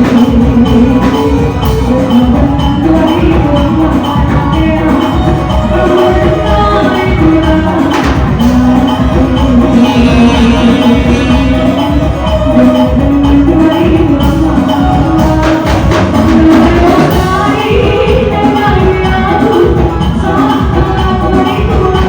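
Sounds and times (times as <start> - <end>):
loud amplified band music: 0.0 - 22.0.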